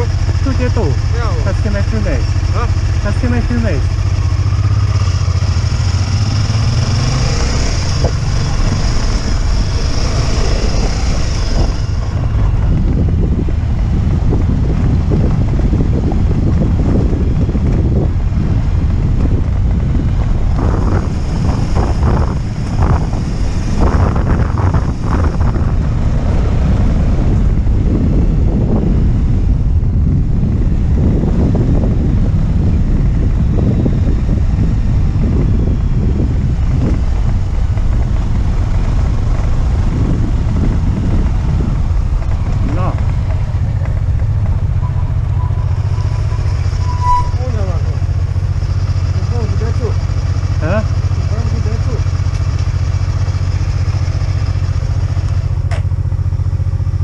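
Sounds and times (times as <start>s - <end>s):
motorcycle running: 0.0s - 57.0s
wind buffeting microphone: 0.0s - 57.0s.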